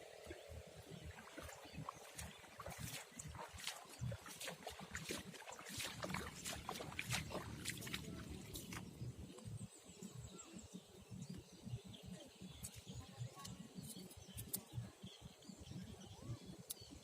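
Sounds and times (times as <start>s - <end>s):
faint bird chirps: 1.2s - 17.0s.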